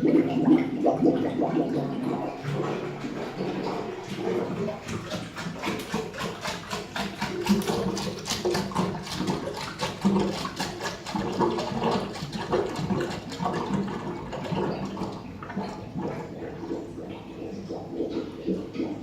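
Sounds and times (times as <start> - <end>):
water gurgling in plumbing: 0.0 - 19.0.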